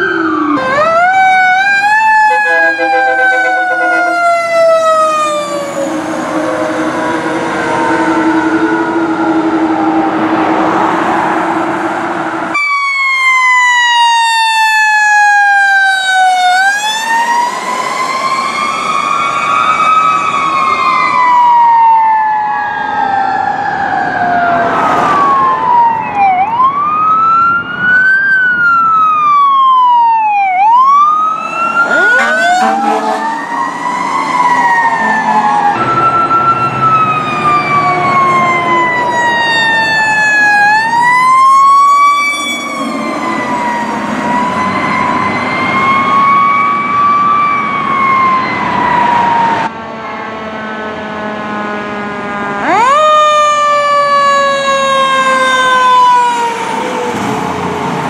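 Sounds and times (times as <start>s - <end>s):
fire truck sirens: 0.0s - 58.0s.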